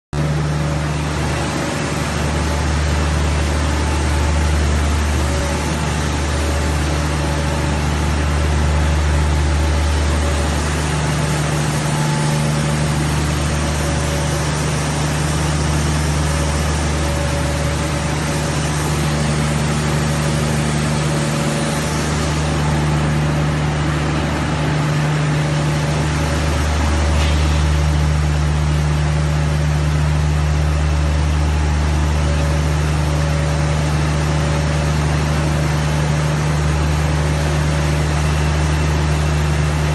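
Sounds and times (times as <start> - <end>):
machine humming and rushing: 0.2 - 39.9.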